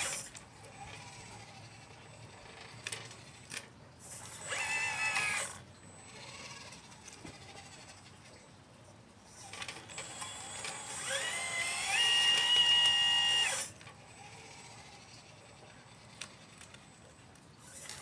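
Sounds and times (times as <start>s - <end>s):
electric motor whining: 0.0s - 8.1s, 9.3s - 18.0s.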